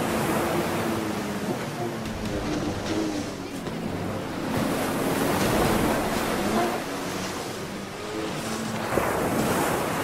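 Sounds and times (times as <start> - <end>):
jet ski engine hum: 0.0 - 10.0
ocean surf: 0.0 - 10.0.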